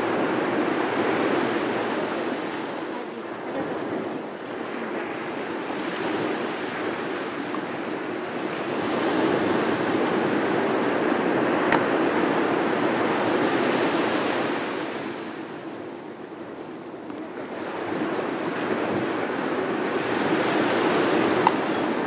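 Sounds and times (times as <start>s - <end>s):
surf washing on sandy shore: 0.0s - 22.0s.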